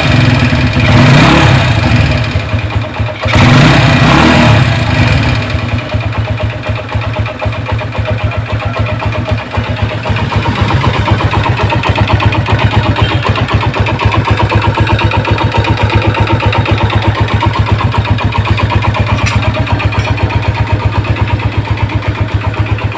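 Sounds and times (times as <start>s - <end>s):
motorcycle engine idling: 0.0s - 22.9s
motorcycle engine revving: 0.0s - 22.9s.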